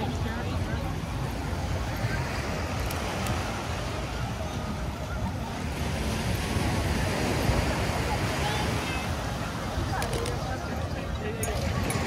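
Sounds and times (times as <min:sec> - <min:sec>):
surf on the beach: 0:00.0 - 0:12.0.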